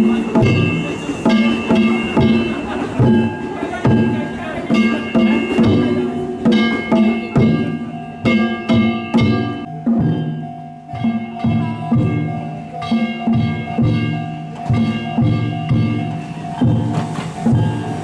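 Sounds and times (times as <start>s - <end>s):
metal gongs clanging: 0.0s - 18.0s
taiko drum: 0.0s - 18.0s.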